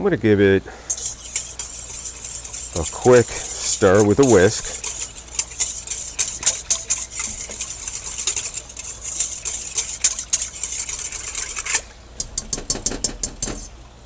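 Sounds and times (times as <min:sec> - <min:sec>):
whisk clicking in metal bowl: 0:00.9 - 0:13.8.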